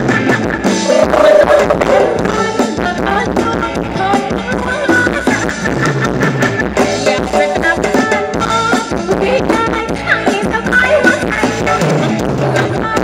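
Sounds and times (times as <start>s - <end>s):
live dance band playing: 0.0s - 13.0s.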